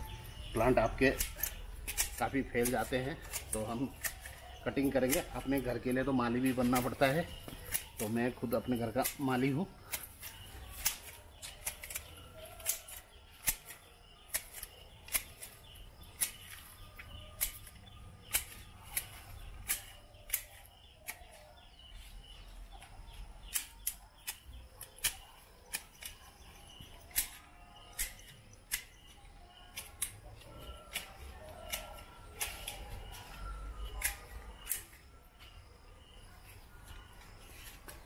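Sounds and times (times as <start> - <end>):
hedge shears blades clicking: 0.1 - 21.4, 23.4 - 35.1.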